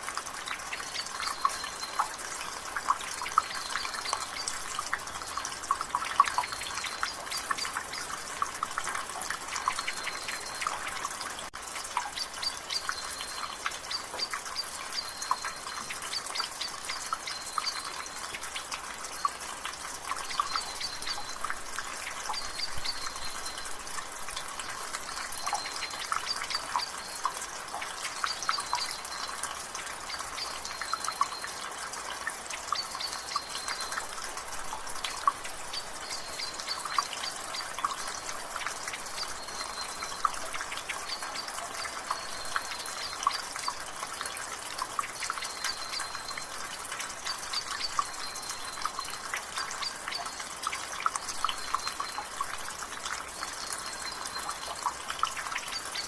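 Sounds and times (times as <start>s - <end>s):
light rain patter: 0.0s - 56.0s
water dripping from gutter: 0.0s - 56.0s.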